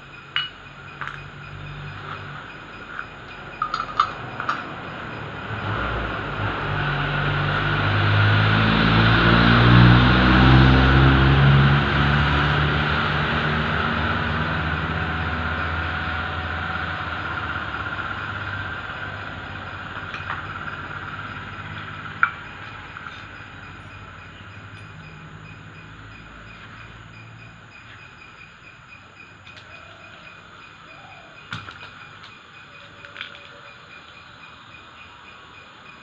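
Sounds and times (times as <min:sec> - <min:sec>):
vehicle engine running: 0:00.0 - 0:35.1.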